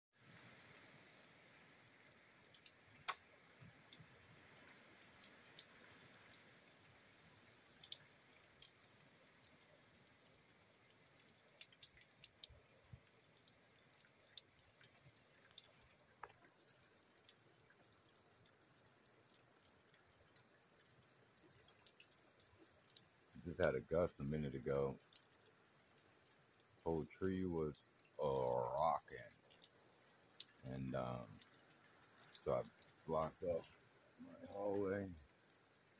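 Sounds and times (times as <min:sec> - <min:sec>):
faint rain hiss: 0:00.2 - 0:35.9.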